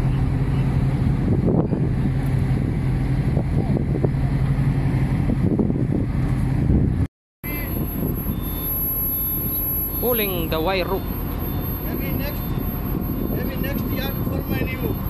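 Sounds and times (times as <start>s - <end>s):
diesel engine droning: 0.0s - 15.0s
wind buffeting microphone: 0.0s - 15.0s.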